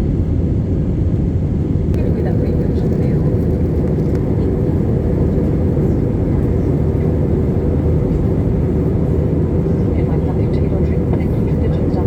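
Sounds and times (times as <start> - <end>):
jet engines roaring on takeoff: 0.0 - 12.0.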